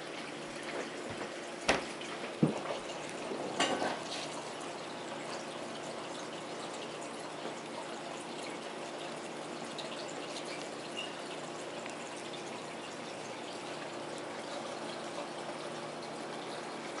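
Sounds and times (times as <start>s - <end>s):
water tap running: 0.0s - 17.0s.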